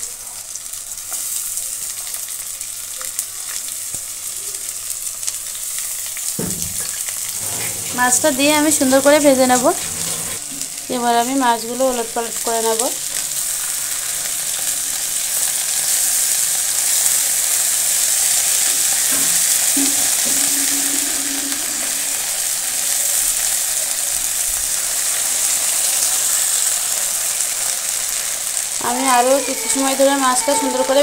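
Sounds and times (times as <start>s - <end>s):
fish sizzling in hot oil: 0.0s - 31.0s.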